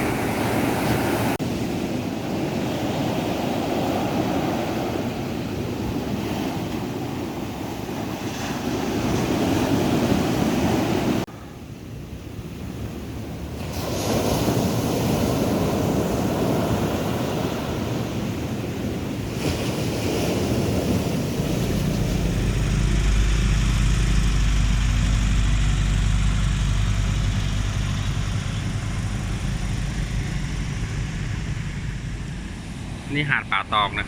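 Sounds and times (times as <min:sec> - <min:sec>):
wind buffeting microphone: 0:00.0 - 0:33.1
sea surf washing in: 0:00.0 - 0:34.0.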